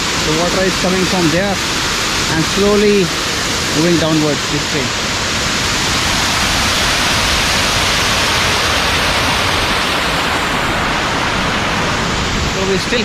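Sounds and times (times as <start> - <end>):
waterfall rushing over rock: 0.0 - 13.0.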